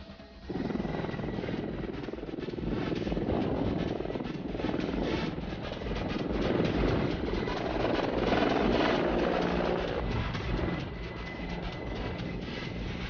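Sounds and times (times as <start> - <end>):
helicopter rotors beating: 0.0 - 13.0
turbine engines running: 0.0 - 13.0.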